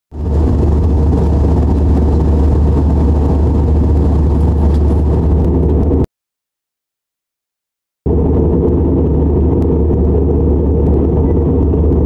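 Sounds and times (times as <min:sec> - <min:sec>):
airliner cabin engine drone: 0:00.2 - 0:06.1, 0:08.1 - 0:12.0.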